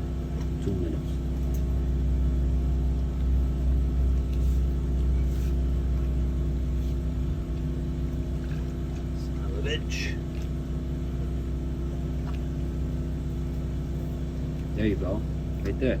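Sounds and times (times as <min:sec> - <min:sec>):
drain-cleaning machine motor running: 0:00.0 - 0:16.0.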